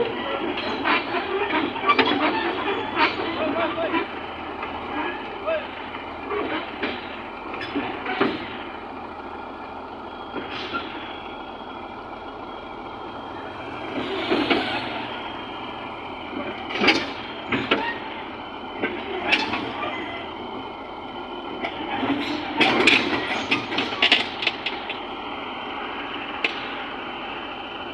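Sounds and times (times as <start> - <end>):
heavy machinery running: 0.0 - 27.9.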